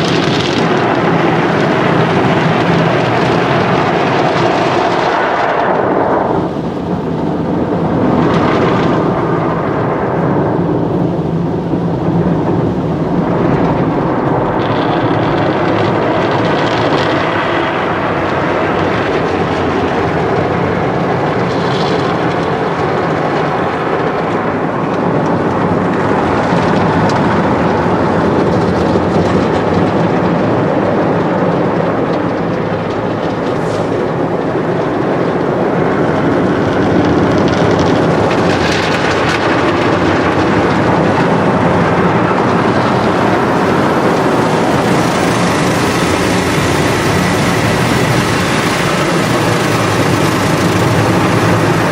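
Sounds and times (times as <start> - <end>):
spinning car wash brushes: 0.0 - 51.9.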